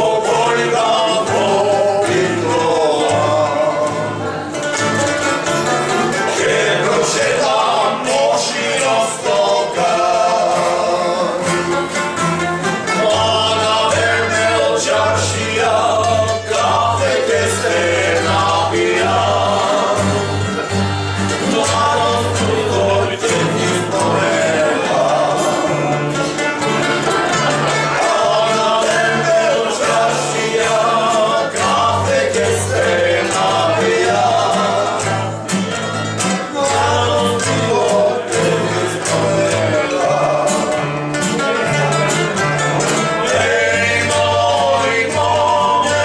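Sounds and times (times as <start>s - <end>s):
folk string band playing: 0.0s - 46.0s
men singing together: 0.0s - 46.0s.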